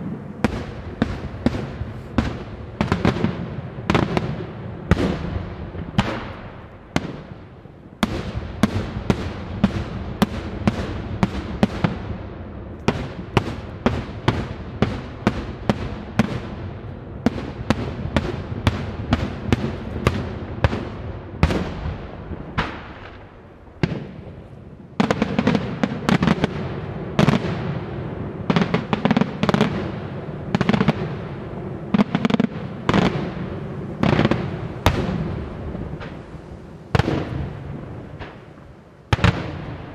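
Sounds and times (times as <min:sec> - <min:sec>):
rolling echo: 0:00.0 - 0:39.9.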